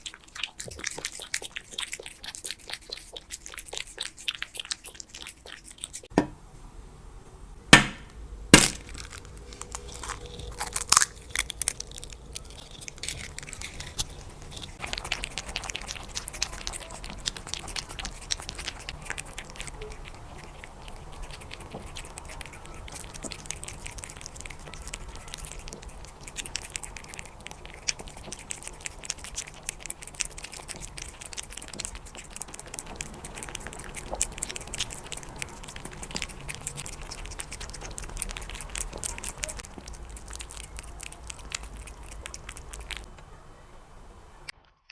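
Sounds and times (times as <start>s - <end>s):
cat crunching food: 0.0s - 6.1s, 8.5s - 43.1s.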